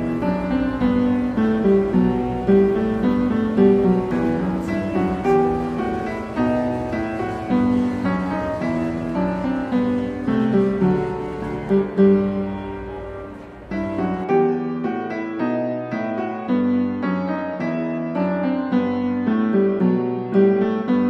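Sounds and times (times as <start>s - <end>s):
classical piano piece: 0.0s - 21.0s.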